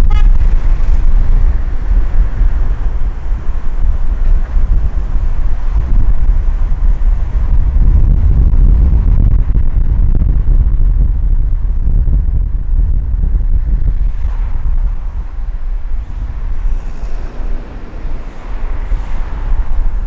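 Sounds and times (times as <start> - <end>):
car road and wind rumble: 0.0 - 20.0.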